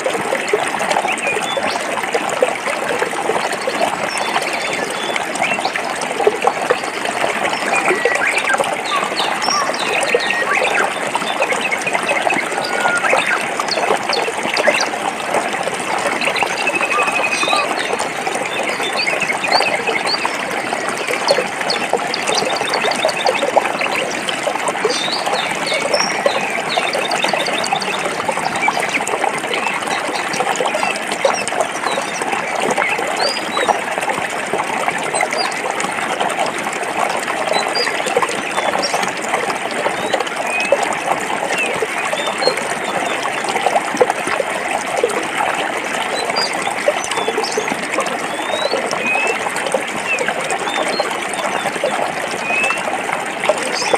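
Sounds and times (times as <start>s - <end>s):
stream water babbling over rocks: 0.0s - 53.9s.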